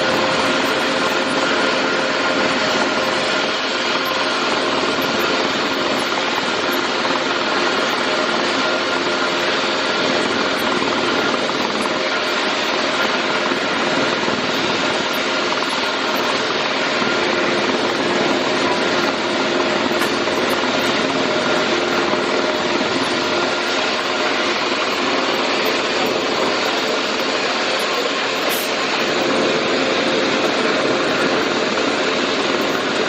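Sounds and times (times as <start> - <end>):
faint steady whine tones: 0.0 - 33.0
helicopter turbine and rotor noise: 0.0 - 33.0.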